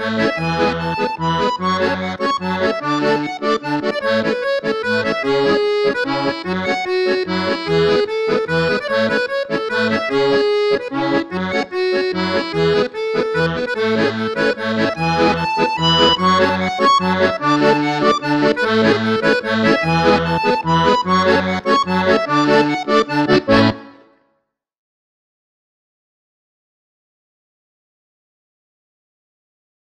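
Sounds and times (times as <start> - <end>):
accordion playing a tune: 0.0 - 24.2.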